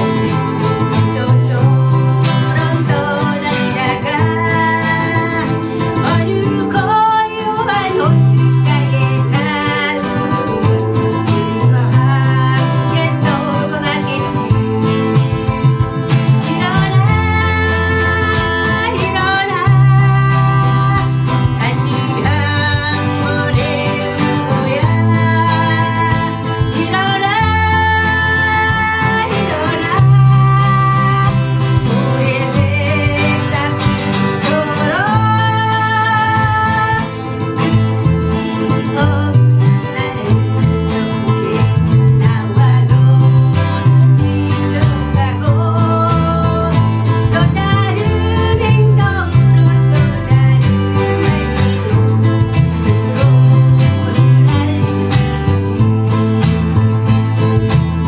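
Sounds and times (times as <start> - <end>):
woman singing: 0.0 - 57.6
acoustic guitar strumming: 0.0 - 58.0.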